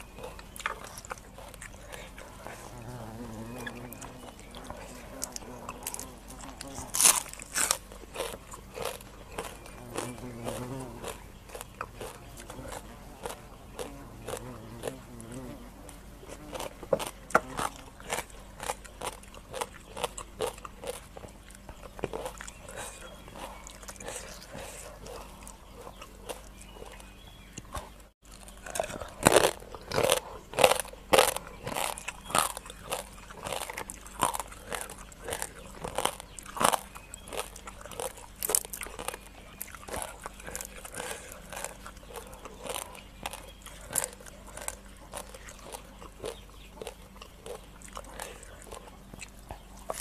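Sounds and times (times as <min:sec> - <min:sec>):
chewing and crunching: 0:00.0 - 0:50.0.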